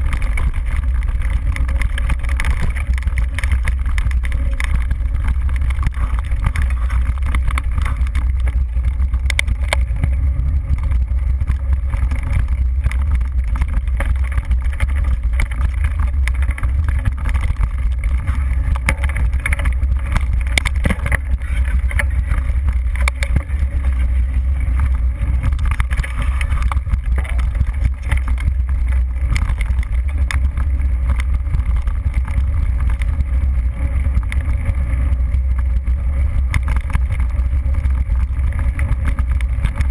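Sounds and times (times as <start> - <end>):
bike rattles and clicks: 0.0 - 39.9
low rumble of wind and vibration: 0.0 - 39.9.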